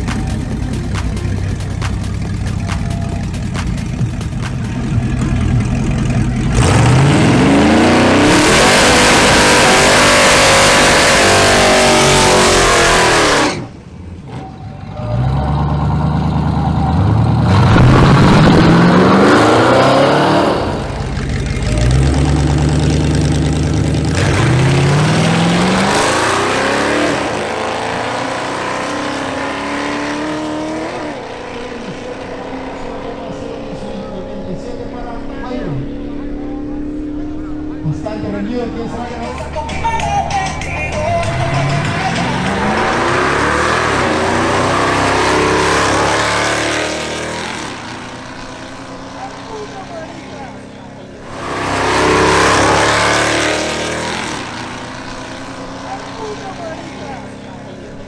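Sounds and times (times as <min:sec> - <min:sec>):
racing cars accelerating hard: 0:00.0 - 0:39.6, 0:40.9 - 0:58.0.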